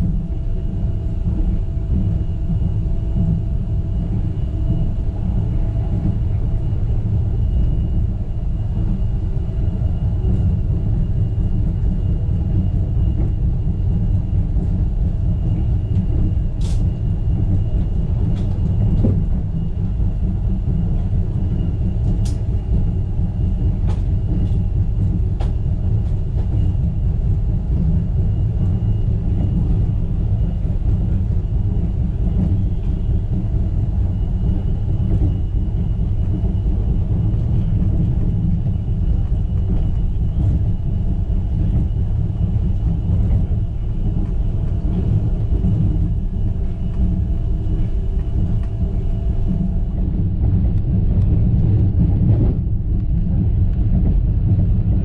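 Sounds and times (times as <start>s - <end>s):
monorail car rumbling: 0.0s - 55.0s.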